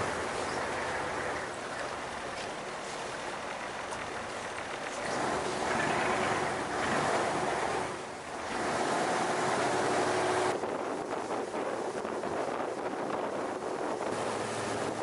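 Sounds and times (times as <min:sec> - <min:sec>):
boat engine running: 0:00.0 - 0:15.0
splashing water: 0:00.0 - 0:15.0
water rushing along hull: 0:00.0 - 0:15.0
wind buffeting microphone: 0:00.0 - 0:15.0.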